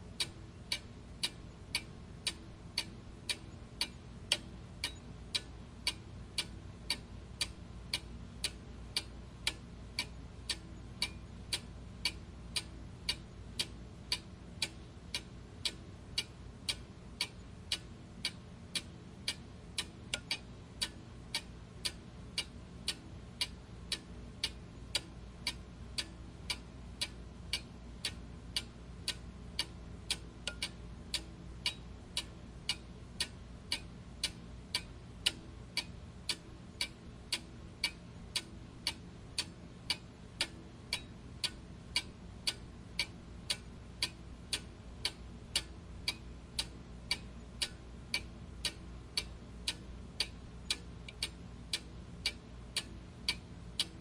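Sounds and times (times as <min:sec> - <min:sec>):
faint low hum: 0:00.0 - 0:54.0
clock ticking: 0:00.2 - 0:54.0.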